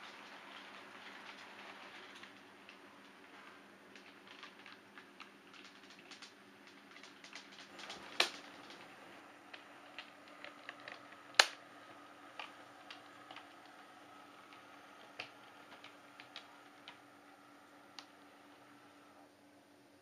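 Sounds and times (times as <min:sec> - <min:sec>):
model train wheels clicking: 0:00.0 - 0:18.9
faint steady hum: 0:00.0 - 0:20.0.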